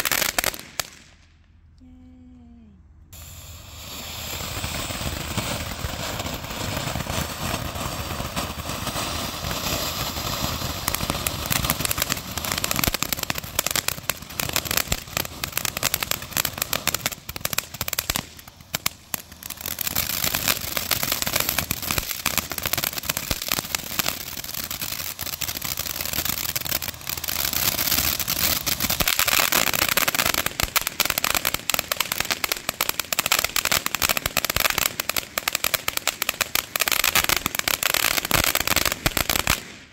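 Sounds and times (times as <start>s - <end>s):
firework fountain hissing and crackling: 0.0s - 1.1s, 3.1s - 39.9s.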